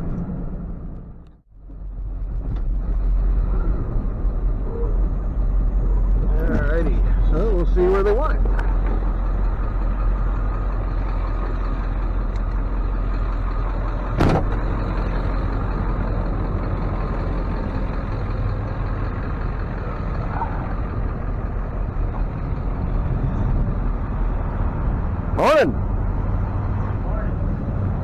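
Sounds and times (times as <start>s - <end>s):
truck engine rumbling: 0.0s - 28.0s.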